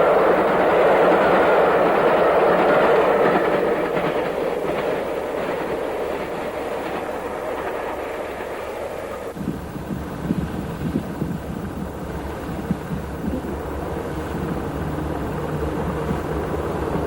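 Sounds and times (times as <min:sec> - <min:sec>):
steam train running past: 0:00.0 - 0:17.0.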